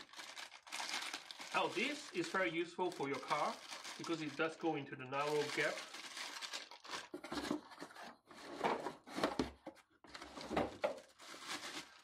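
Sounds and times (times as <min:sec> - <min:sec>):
plastic bag crinkling and rustling: 0:00.0 - 0:08.0, 0:10.1 - 0:12.0.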